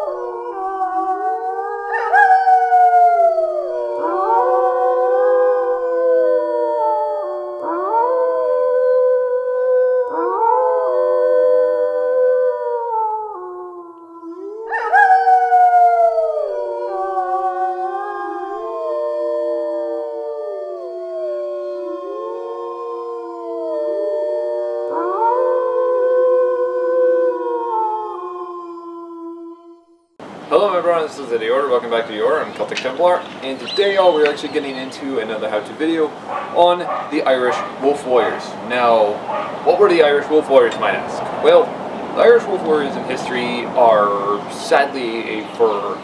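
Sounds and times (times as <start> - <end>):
wolves howling: 0.0 - 29.8, 30.5 - 46.0.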